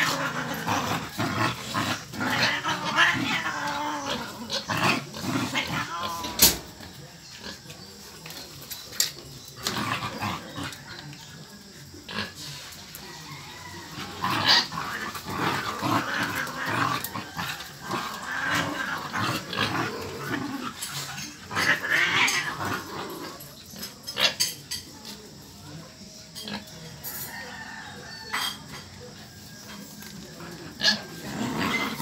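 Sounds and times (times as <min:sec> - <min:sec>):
dog growling and snuffling: 0:00.0 - 0:25.4, 0:28.8 - 0:32.0.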